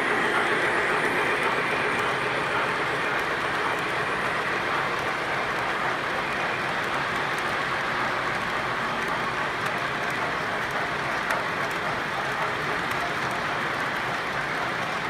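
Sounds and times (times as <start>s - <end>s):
model train whirring: 0.0s - 15.0s.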